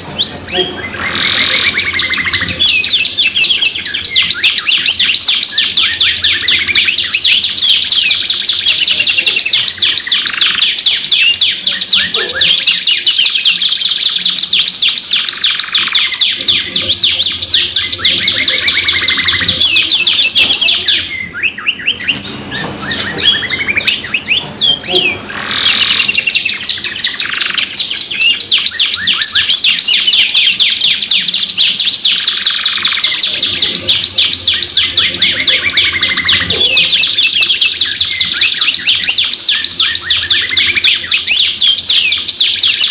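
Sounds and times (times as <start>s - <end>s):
canaries singing trills: 0.0s - 42.9s.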